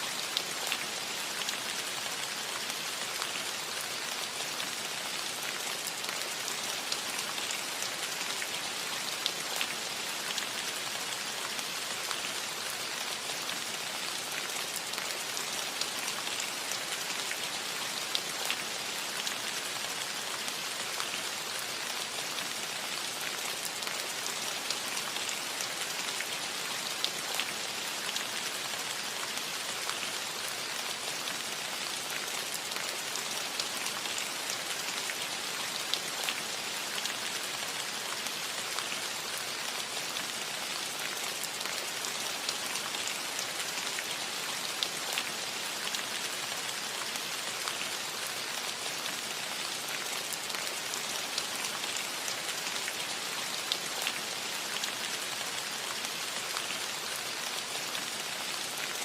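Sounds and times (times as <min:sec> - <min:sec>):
rain hissing on a metal roof: 0:00.0 - 0:59.0.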